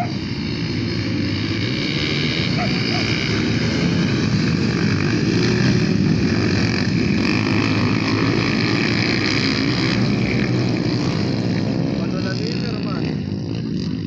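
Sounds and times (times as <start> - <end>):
dirt bike engines accelerating: 0.0 - 14.0.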